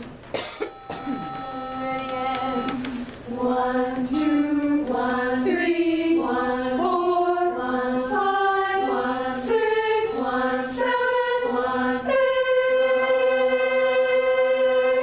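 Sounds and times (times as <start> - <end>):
chorus singing a scale: 0.6 - 15.0.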